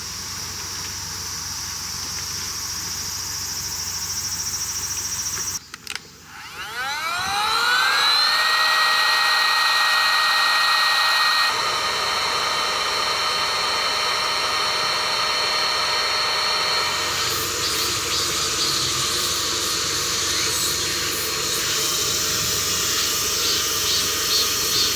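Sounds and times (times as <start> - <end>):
small electric motor whirring: 0.0 - 24.9.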